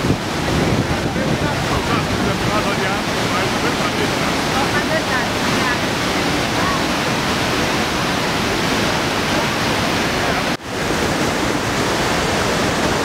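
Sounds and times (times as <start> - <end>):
roar of falling water: 0.0 - 13.0.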